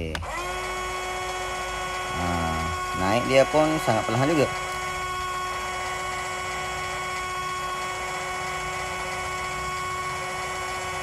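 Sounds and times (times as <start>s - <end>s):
electric winch motor whining: 0.0s - 11.0s.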